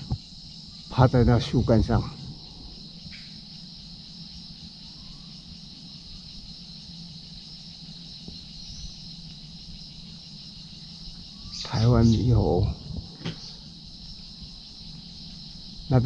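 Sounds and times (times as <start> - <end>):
insects buzzing: 0.0 - 16.0.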